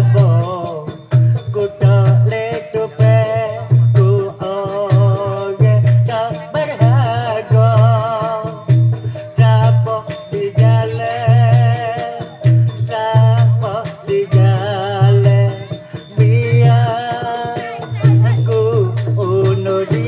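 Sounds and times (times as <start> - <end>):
jingling rattle: 0.0 - 20.0
low drum beats: 0.0 - 20.0.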